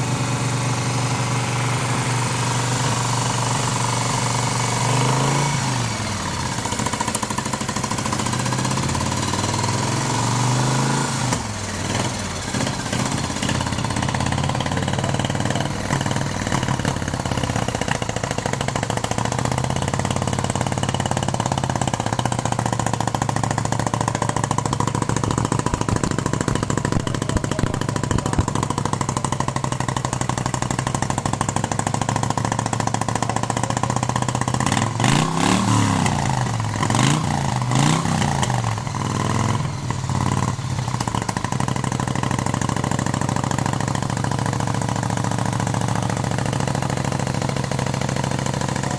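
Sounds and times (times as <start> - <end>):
motorcycle engine revving and idling: 0.0 - 48.9.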